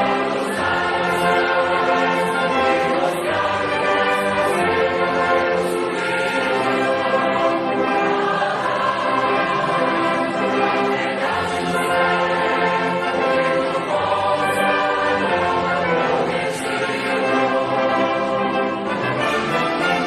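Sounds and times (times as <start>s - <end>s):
choir singing sustained chords: 0.0s - 20.0s
orchestral accompaniment: 0.0s - 20.0s.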